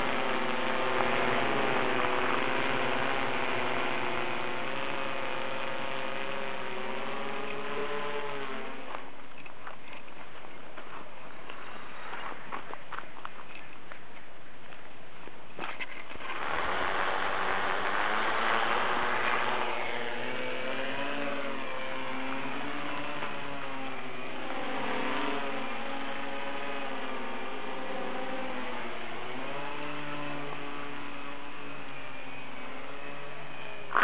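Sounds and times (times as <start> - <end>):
quadcopter motors whirring: 0.0 - 34.0.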